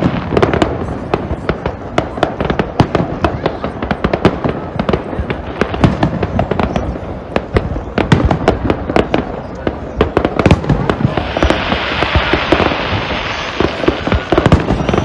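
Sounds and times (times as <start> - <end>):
fireworks popping and banging: 0.0 - 15.0.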